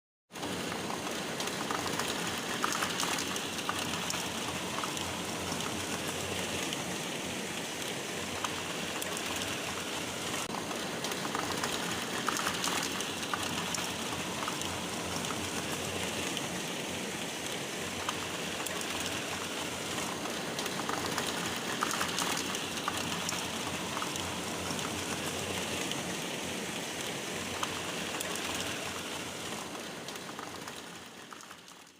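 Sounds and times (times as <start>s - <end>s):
rain falling: 0.3s - 31.9s.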